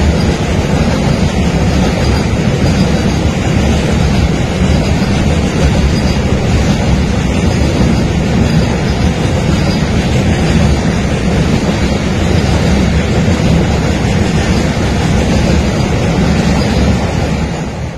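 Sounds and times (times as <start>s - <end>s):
freight train passing: 0.0s - 17.9s.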